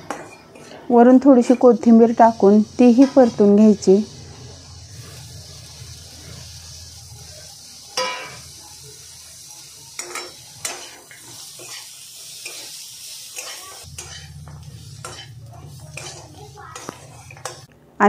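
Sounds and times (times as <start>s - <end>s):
frying sizzle: 0.0s - 17.7s
metal spatula scraping: 0.1s - 7.4s, 10.0s - 17.7s.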